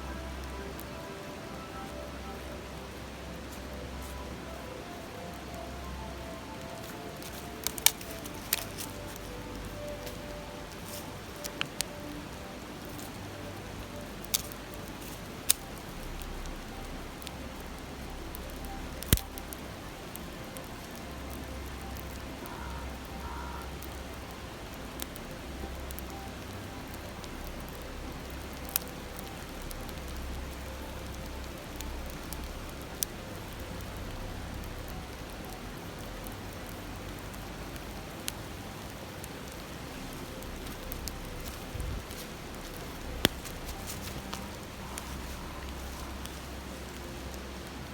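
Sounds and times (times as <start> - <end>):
campfire crackling: 0.0 - 47.9
stream rushing: 0.0 - 47.9.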